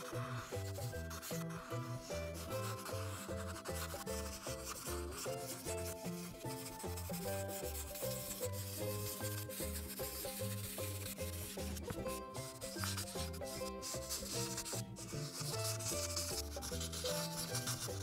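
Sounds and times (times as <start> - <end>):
background music with bass line: 0.0 - 18.0
marker scratching on paper: 0.0 - 18.0.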